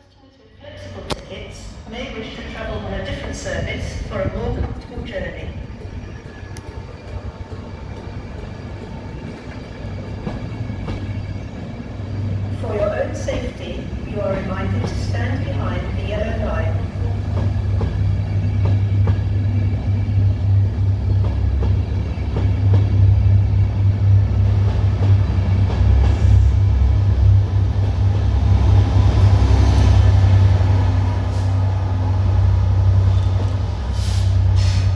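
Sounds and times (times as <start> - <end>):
diesel locomotive engine rumble: 0.4 - 34.9.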